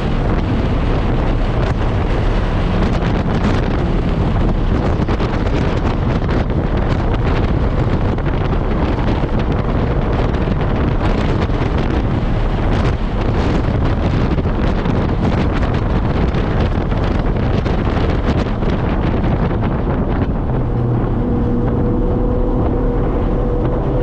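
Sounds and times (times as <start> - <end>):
car engine and road noise: 0.0 - 24.0
wind rumble on microphone: 0.0 - 24.0.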